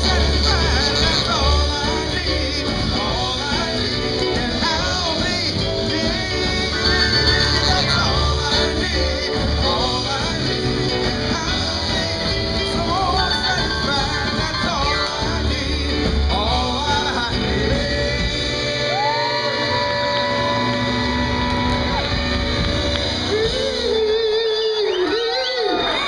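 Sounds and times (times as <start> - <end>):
vocal group singing in harmony: 0.0 - 23.7
rock and roll band playing: 0.0 - 26.0.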